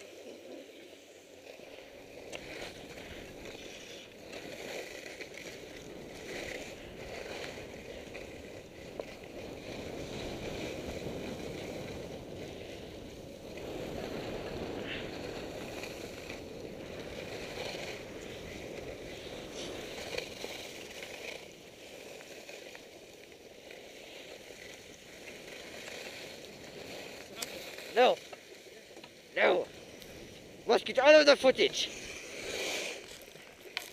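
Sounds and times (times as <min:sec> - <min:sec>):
skis scraping over snow: 0:00.0 - 0:33.9.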